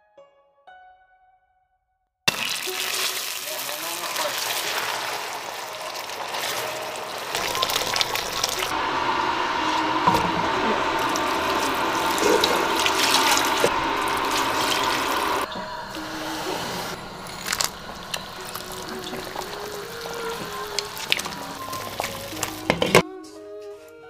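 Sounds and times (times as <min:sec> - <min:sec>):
water pouring into a pot: 0:02.3 - 0:23.0.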